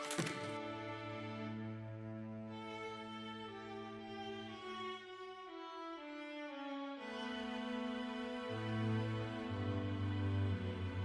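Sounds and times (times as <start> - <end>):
slow sad string music: 0.0 - 11.0.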